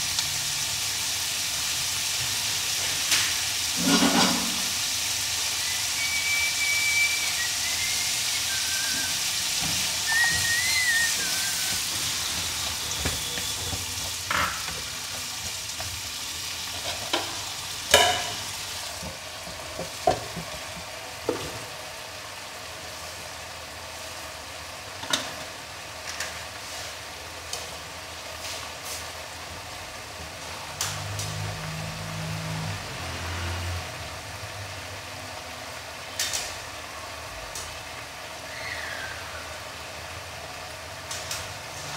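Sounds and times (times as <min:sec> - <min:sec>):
vegetables sizzling in a pan: 0:00.0 - 0:41.9.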